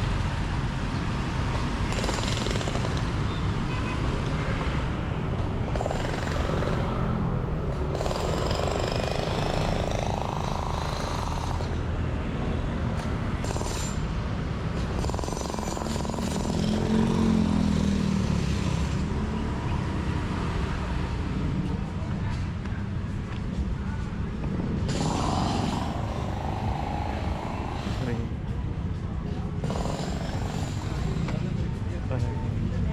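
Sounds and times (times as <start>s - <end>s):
vehicle engines rattling: 0.0s - 32.9s.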